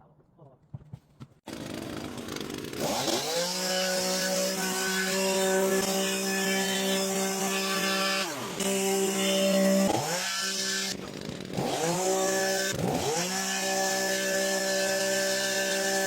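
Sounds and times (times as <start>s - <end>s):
hedge trimmer engine revving: 1.5s - 16.0s.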